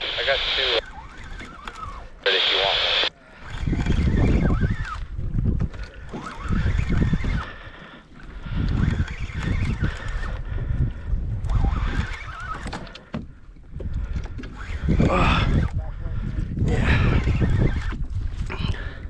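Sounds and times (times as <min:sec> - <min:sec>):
wind buffeting microphone: 0:03.4 - 0:19.0.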